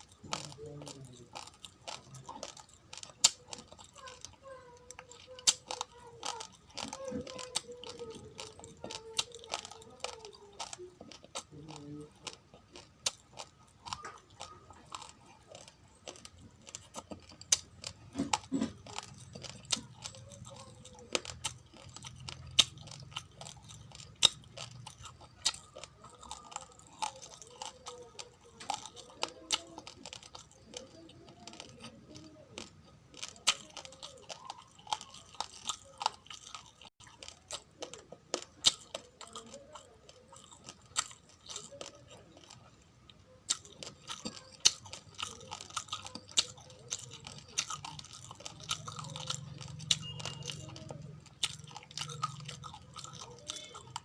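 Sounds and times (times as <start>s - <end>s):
chewing raw rice crunching: 0.0s - 54.0s.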